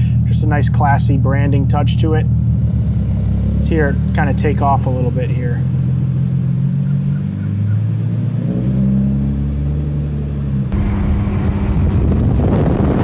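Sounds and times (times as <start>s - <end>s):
car exhaust note pulling away: 0.0s - 13.0s.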